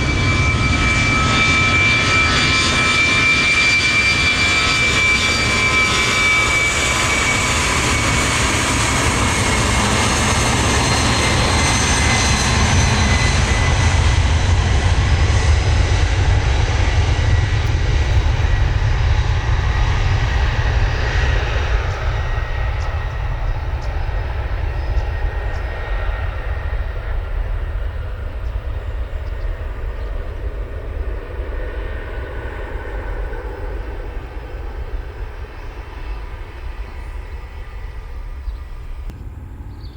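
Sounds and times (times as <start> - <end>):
jet engine low rumble: 0.0 - 39.9
jet engine whine: 0.0 - 39.9.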